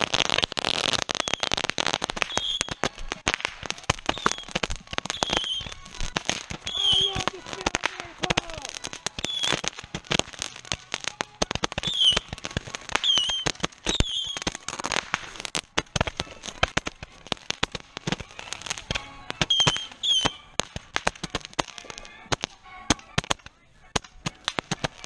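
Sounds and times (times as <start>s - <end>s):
fireworks bangs and pops: 0.0s - 25.0s
high firework squeals: 0.0s - 25.0s.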